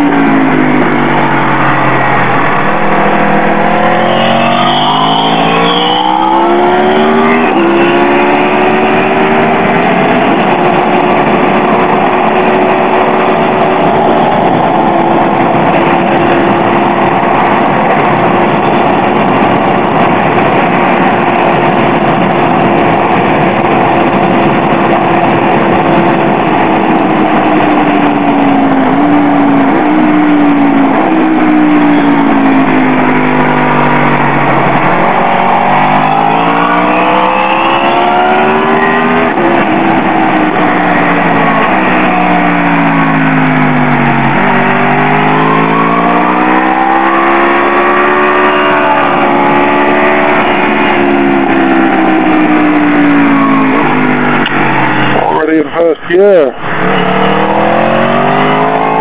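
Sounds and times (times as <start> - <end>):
motorcycle engine at full throttle: 0.0 - 59.0
wind rush on microphone: 0.0 - 59.0.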